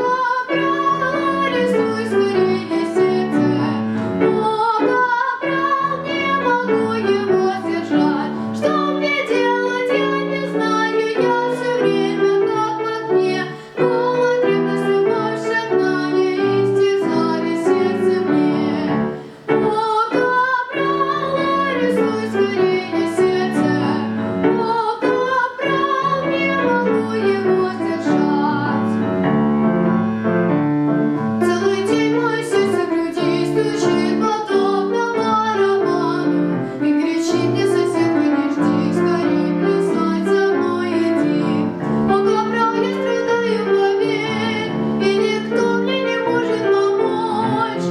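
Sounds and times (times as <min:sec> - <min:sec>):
high voice singing classical song: 0:00.0 - 0:47.9
piano accompaniment: 0:00.0 - 0:47.9.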